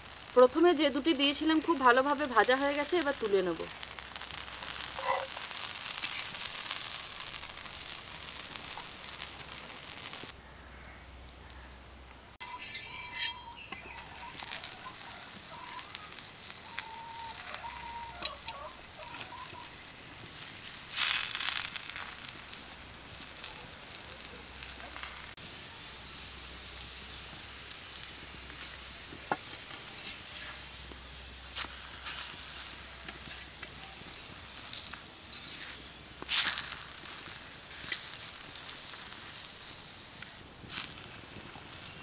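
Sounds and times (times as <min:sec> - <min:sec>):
oil sizzling and crackling: 0:00.0 - 0:10.4, 0:11.1 - 0:42.0.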